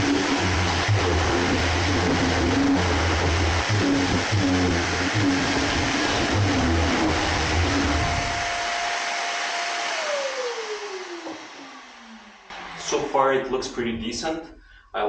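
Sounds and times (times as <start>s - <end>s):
orbital sander on wood: 0.0s - 12.9s
sander whine: 0.0s - 13.1s
shop vac running: 0.0s - 13.8s.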